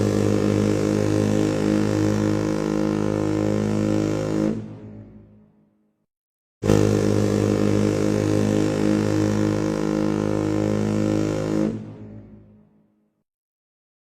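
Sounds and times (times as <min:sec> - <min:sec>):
deep ship horn blast: 0:00.0 - 0:05.3, 0:06.6 - 0:12.7.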